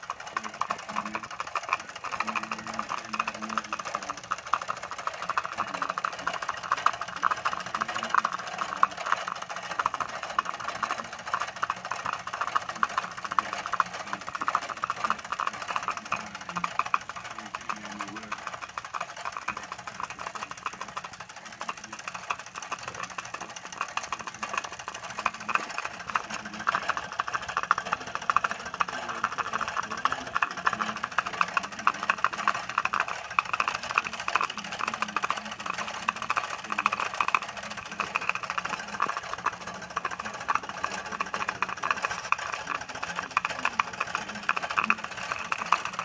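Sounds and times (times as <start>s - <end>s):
gearing mechanical beat: 0.0s - 46.0s
model steam engine running fast: 0.0s - 46.0s.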